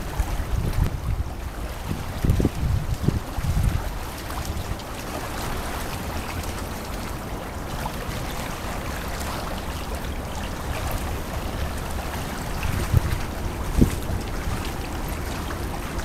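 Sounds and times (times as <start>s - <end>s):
small water splashes: 0.0s - 16.0s
water lapping and trickling: 0.0s - 16.0s.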